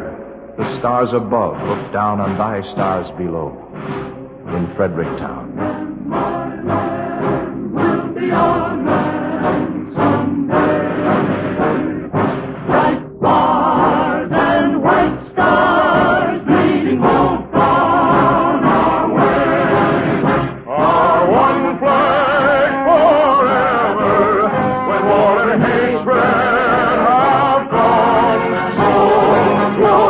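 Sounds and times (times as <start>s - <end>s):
choir and orchestra performing: 0.0s - 30.0s.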